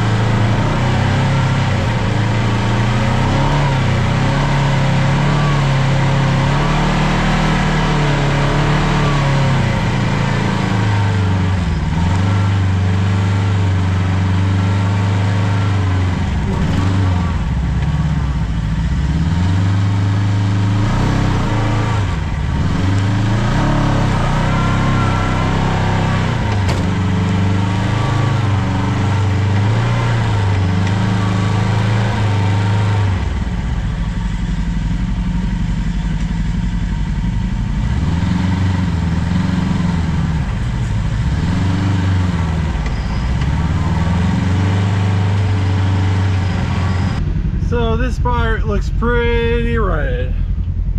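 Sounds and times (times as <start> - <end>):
utv engine revving: 0.0 - 50.9.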